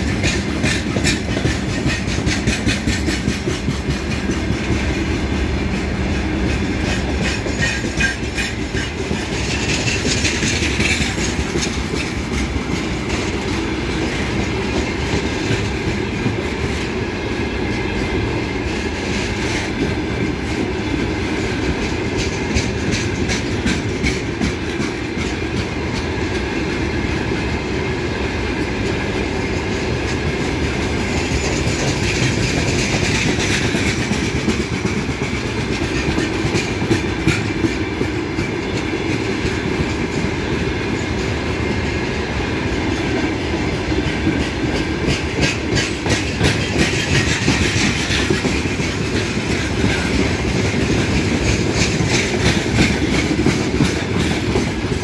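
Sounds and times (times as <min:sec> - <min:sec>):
wheels clicking over rail joints: 0:00.0 - 0:17.0, 0:18.6 - 0:27.4, 0:28.6 - 0:41.7, 0:42.9 - 0:55.0
freight train rumbling past: 0:00.0 - 0:55.0.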